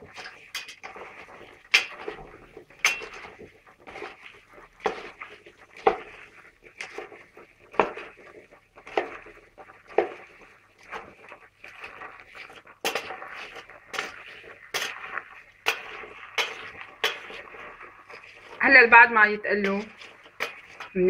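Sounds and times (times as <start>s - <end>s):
beans rustling and scraping: 0.0s - 21.0s.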